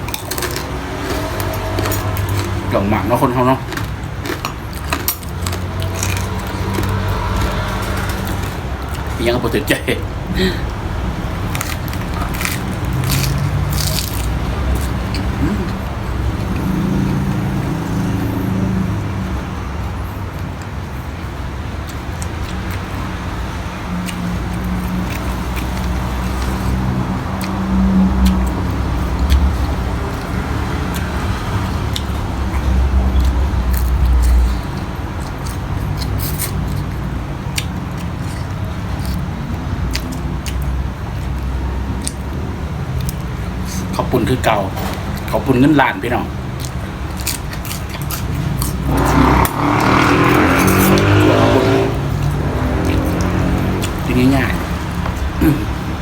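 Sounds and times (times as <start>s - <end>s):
chewing: 0.0s - 9.2s, 10.6s - 18.2s, 21.8s - 56.0s.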